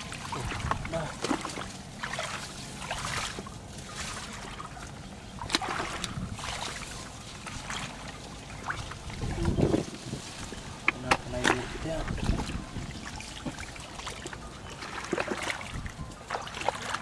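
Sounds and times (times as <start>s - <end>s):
footsteps wading through muddy water: 0.0s - 17.0s.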